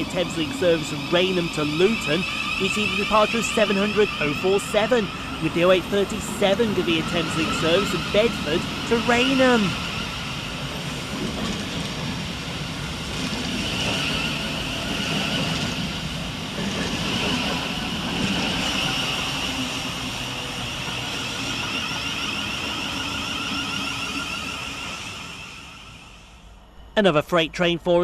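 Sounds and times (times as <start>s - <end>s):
train wheels rumbling on rail: 0.0s - 26.7s
high train whine: 0.0s - 28.0s.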